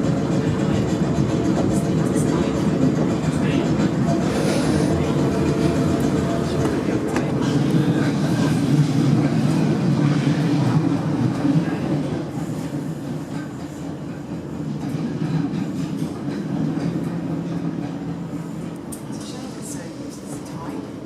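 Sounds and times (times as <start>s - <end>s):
train rail and traction noise: 0.0s - 21.0s.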